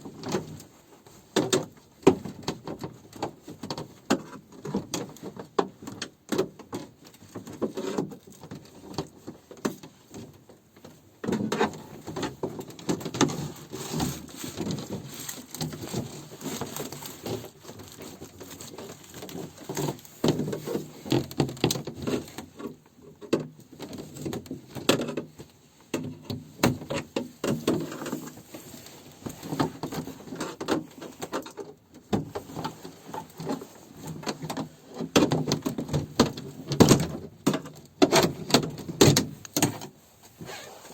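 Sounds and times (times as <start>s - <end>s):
rustling and scraping handling: 0.1s - 40.9s.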